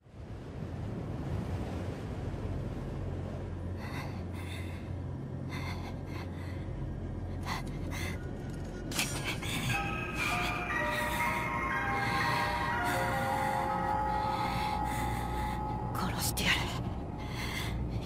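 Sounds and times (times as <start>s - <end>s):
low ominous drone: 2.4s - 18.0s.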